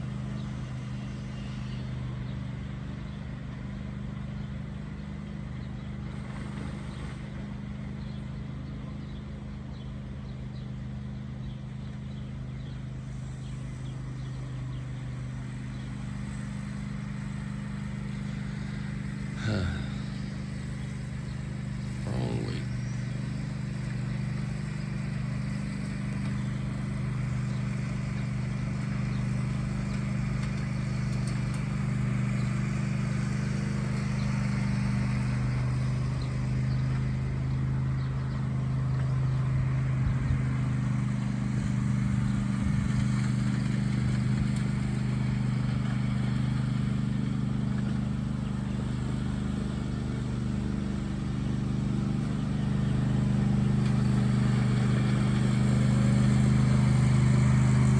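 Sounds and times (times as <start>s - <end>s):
riding lawnmower engine: 0.0s - 57.9s.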